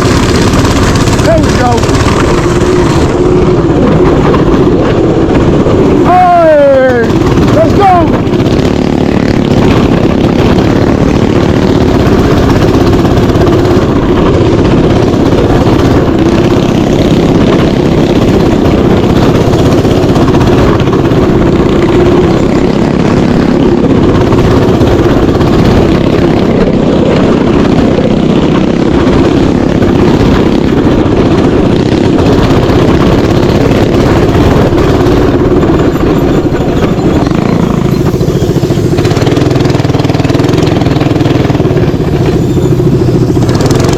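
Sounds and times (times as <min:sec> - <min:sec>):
mini bike engine running: 0:00.0 - 0:43.9.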